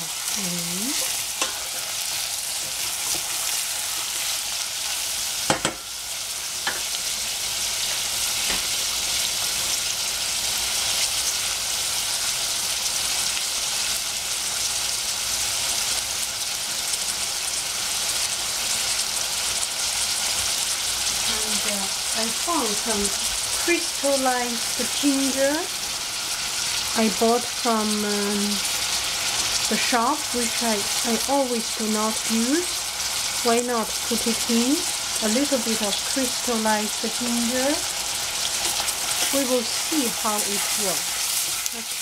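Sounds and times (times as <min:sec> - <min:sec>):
vegetables sizzling in oil: 0:00.0 - 0:42.0.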